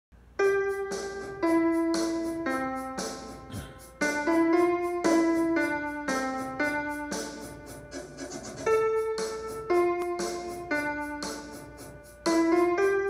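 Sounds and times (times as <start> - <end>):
piano melody: 0.2 - 13.0.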